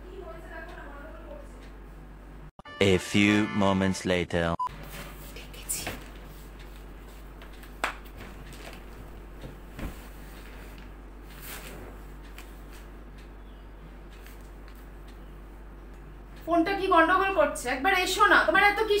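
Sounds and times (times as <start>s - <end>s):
steady low hum: 0.0s - 2.5s, 4.2s - 19.0s.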